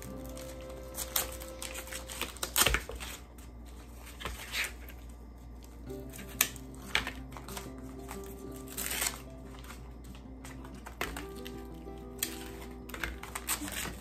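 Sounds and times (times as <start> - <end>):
soft background music: 0.0 - 14.0
wax paper crinkling: 0.0 - 14.0.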